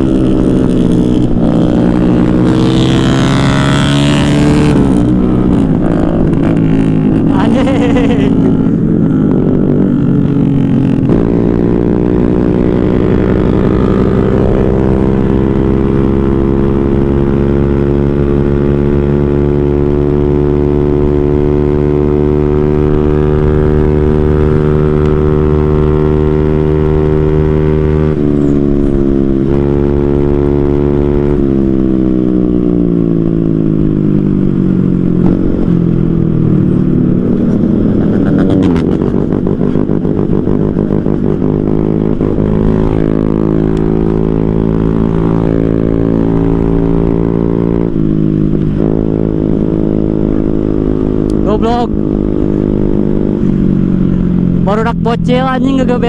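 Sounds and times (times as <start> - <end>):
motorcycle engine at full throttle: 0.0 - 56.0.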